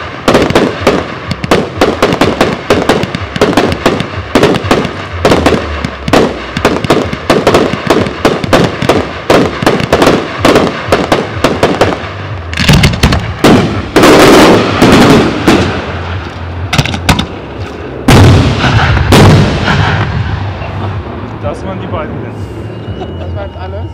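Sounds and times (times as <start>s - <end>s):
fireworks bursting and crackling: 0.0s - 21.2s
fireworks shots firing: 0.0s - 21.2s.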